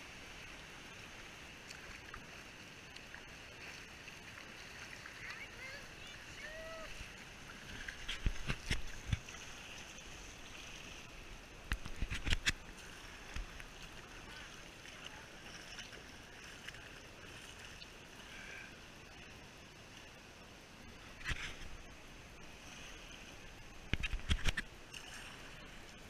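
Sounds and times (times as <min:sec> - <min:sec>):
river water gurgling: 0:00.0 - 0:26.0.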